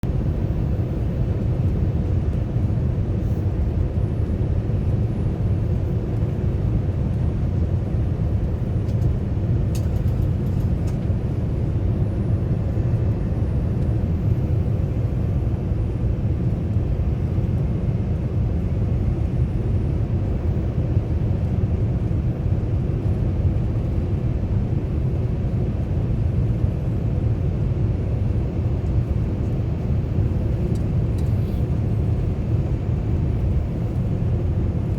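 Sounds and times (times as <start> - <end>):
airliner cabin rumble: 0.0 - 34.9.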